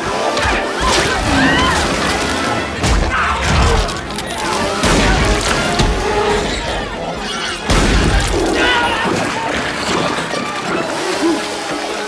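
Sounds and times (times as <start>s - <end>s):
film music: 0.0s - 12.0s
people shouting and screaming: 0.0s - 12.0s.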